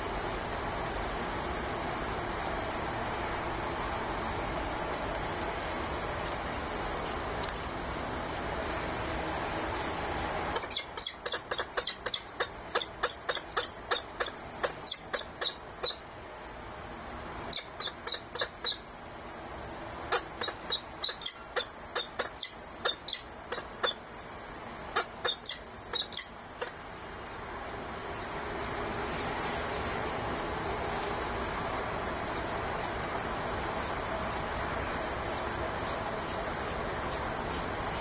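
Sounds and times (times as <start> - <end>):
steady background noise: 0.0 - 38.0.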